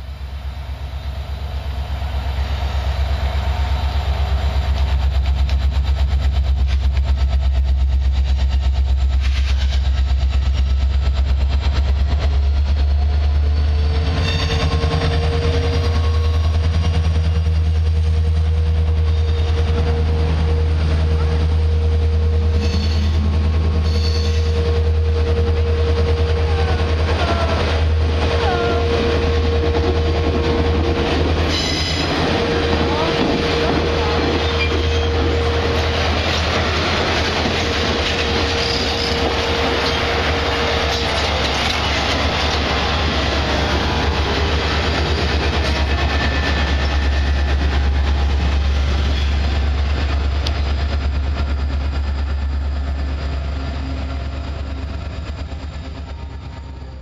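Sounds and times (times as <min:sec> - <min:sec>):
diesel locomotive passing: 0:00.0 - 0:57.0
steel wheels rumbling on rail: 0:00.0 - 0:57.0
wheels clacking over rail joints: 0:03.4 - 0:20.2, 0:22.4 - 0:56.8.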